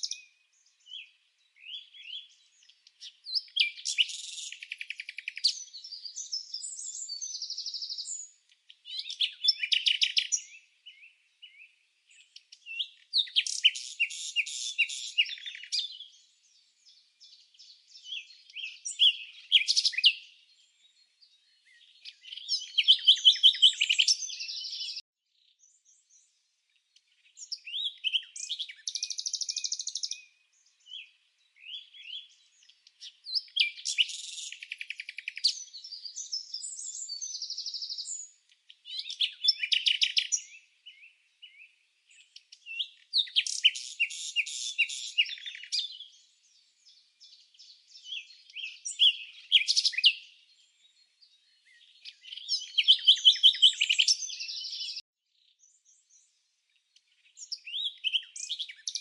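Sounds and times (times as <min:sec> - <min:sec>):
bird chirping and trilling: 0:00.0 - 0:16.2, 0:17.2 - 0:20.4, 0:21.5 - 0:25.0, 0:27.4 - 0:46.2, 0:47.2 - 0:50.4, 0:51.5 - 0:55.0, 0:57.3 - 0:59.0.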